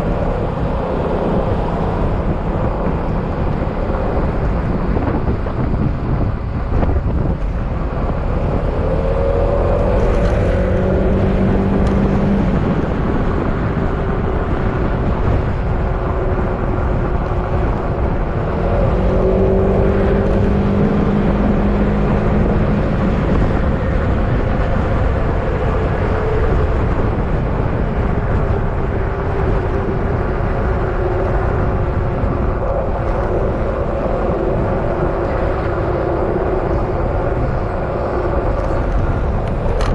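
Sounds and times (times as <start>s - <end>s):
road noise: 0.0s - 39.9s
wind noise: 0.0s - 39.9s.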